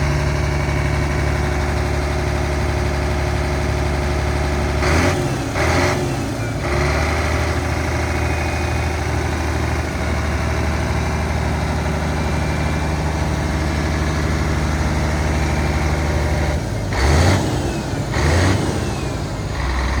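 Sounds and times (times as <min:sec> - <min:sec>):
truck diesel engine idling and revving: 0:00.0 - 0:20.0.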